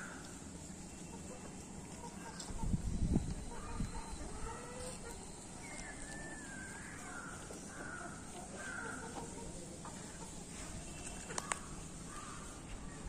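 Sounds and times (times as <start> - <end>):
birds calling: 0.0 - 13.0
steady low background noise: 0.0 - 13.0.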